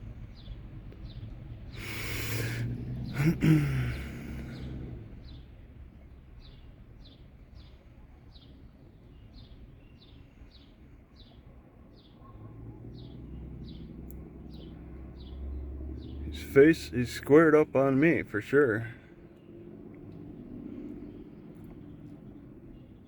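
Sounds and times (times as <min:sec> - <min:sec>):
low steady rumble: 0:00.0 - 0:09.2, 0:12.2 - 0:23.0.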